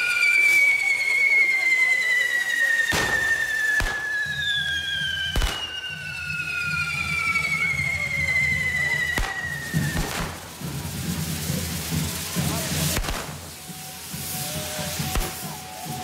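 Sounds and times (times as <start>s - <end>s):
firework bangs: 0.0s - 16.0s
fireworks whistling: 0.0s - 16.0s.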